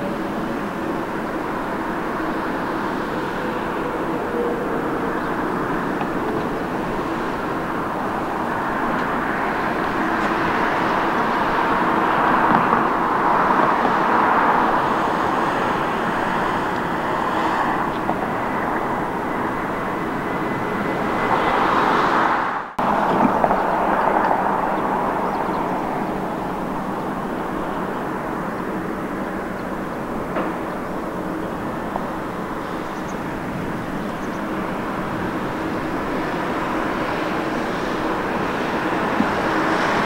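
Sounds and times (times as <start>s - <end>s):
distant jet engine drone: 0.0s - 40.0s
jet engines taxiing hum: 0.0s - 40.0s.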